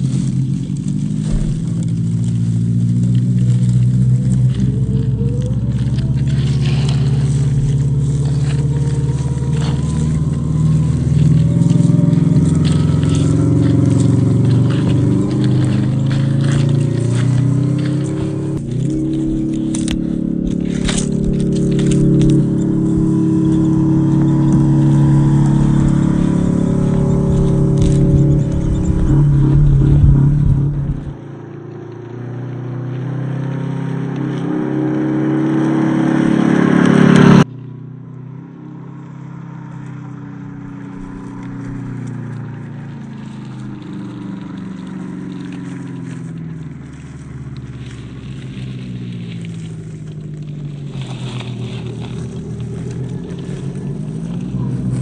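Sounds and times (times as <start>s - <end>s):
electric motor and gears whining: 0.0s - 37.7s, 39.0s - 55.0s
tyres scraping on trail: 0.0s - 37.7s, 39.0s - 55.0s.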